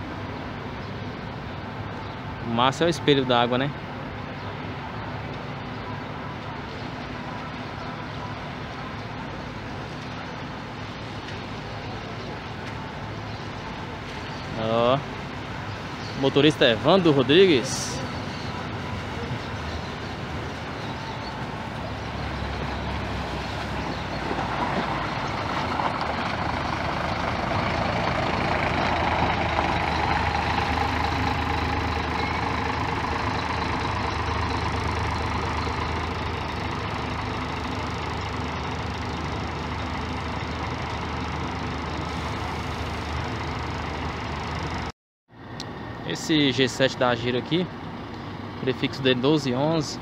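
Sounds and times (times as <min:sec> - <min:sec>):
tyres on wet pavement: 0:00.0 - 0:44.9
bus diesel engine: 0:00.0 - 0:50.0.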